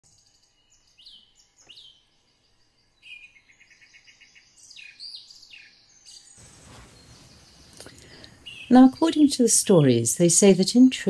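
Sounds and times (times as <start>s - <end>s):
birds chirping and trilling: 0.1s - 10.5s.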